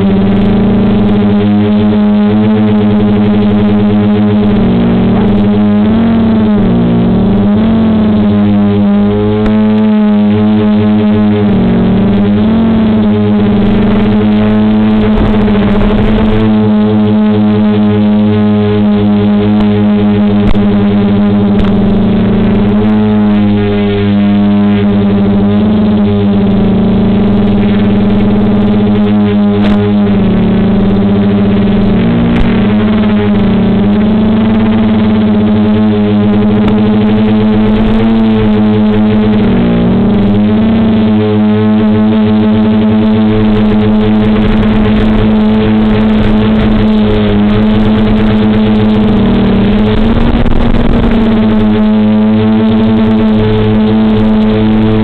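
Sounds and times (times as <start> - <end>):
quadcopter motors humming: 0.0 - 55.0.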